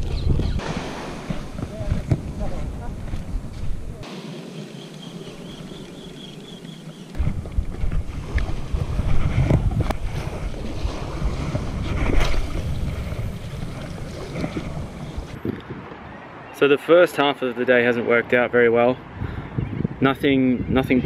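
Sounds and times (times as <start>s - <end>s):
wind buffeting microphone: 0.0s - 4.1s, 5.0s - 16.3s, 19.0s - 21.0s.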